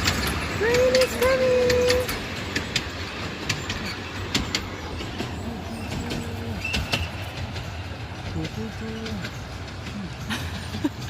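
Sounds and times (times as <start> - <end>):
train rumble: 0.0 - 11.0
train wheels clicking and knocking: 0.0 - 11.0.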